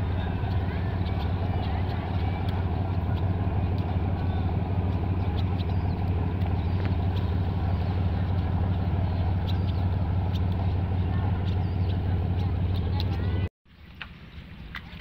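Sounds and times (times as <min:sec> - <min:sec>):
ship diesel engine droning: 0:00.0 - 0:13.5.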